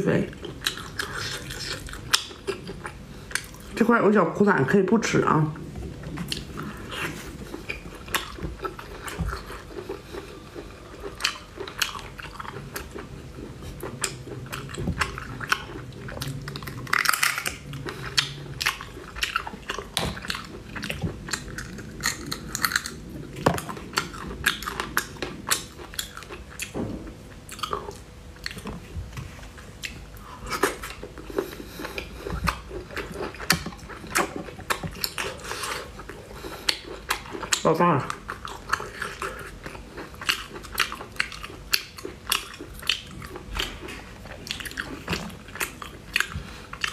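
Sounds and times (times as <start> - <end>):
person chewing: 0.2 - 3.8, 5.6 - 46.9.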